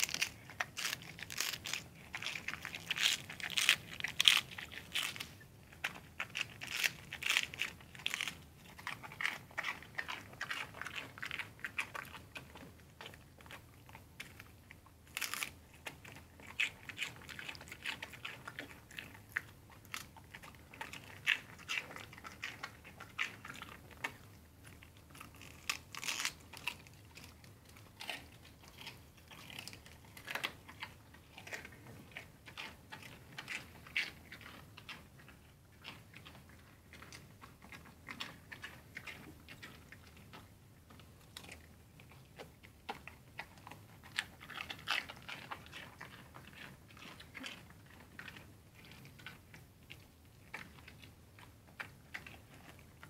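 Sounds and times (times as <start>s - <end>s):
dog chewing lettuce: 0.0s - 53.0s.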